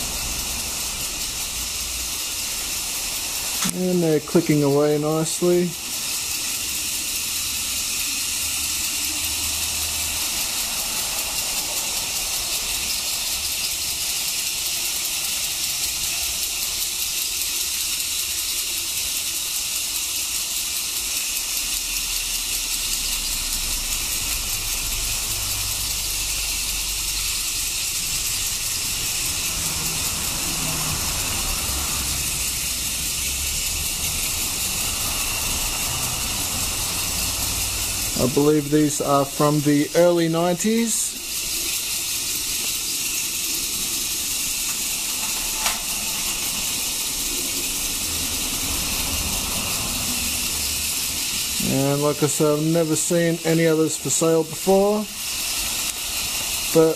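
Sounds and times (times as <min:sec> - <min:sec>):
toy trains clicking: 0:00.0 - 0:56.9.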